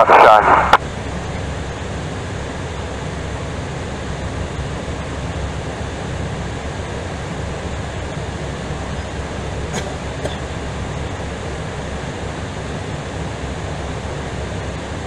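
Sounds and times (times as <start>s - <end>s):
airflow and jet engine noise: 0.0s - 15.0s.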